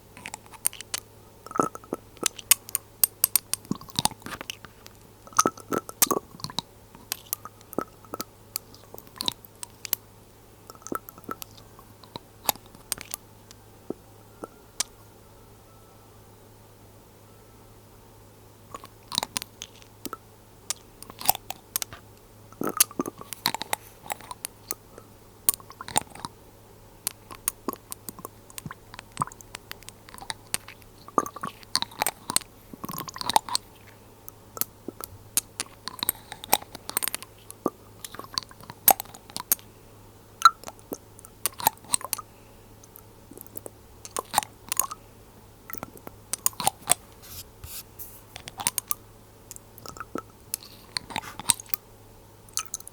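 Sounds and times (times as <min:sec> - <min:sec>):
faint low hum: 0:00.0 - 0:52.9.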